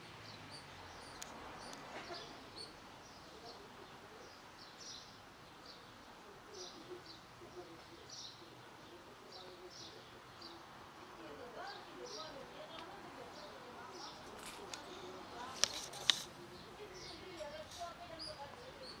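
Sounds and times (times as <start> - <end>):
low outdoor background noise: 0.0 - 19.0
small birds chirping: 0.0 - 19.0.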